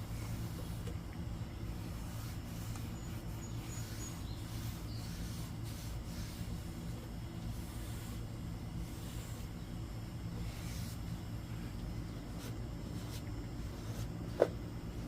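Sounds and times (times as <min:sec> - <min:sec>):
low background rumble: 0:00.0 - 0:15.0
foam pad rubbing on plastic: 0:01.7 - 0:09.7, 0:10.3 - 0:15.0.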